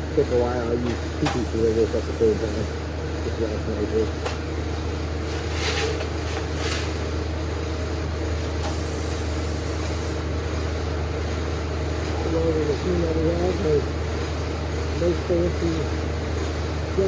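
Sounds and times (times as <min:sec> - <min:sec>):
welding machine humming: 0:00.0 - 0:17.0.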